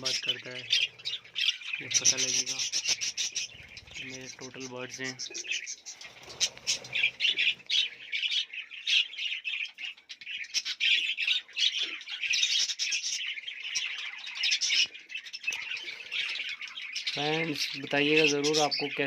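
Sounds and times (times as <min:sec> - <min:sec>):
budgerigars chattering and squawking: 0:00.0 - 0:19.0.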